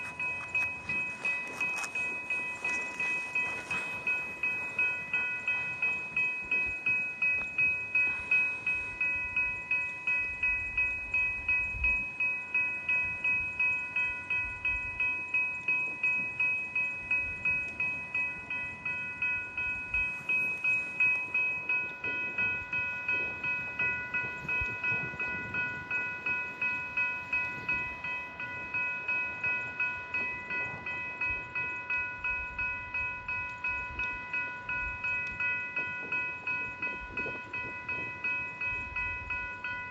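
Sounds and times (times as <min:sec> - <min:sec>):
level-crossing bell ringing: 0:00.0 - 0:39.9.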